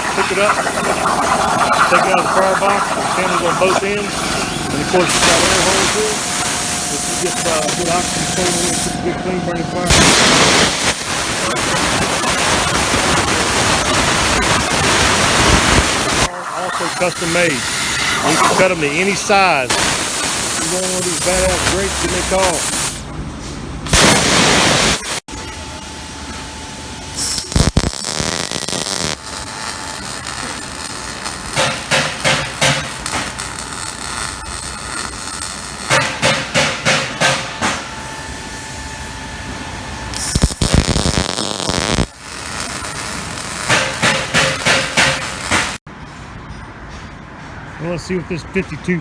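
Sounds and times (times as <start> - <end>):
plasma cutter hissing and crackling: 0.0 - 9.0, 9.9 - 23.0, 23.9 - 25.2, 27.2 - 37.4, 40.2 - 45.8.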